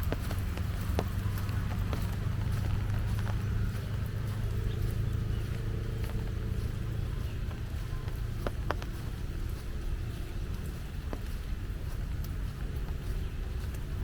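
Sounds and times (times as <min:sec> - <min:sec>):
distant city traffic rumble: 0:00.0 - 0:14.0
footsteps on a path: 0:00.0 - 0:14.0.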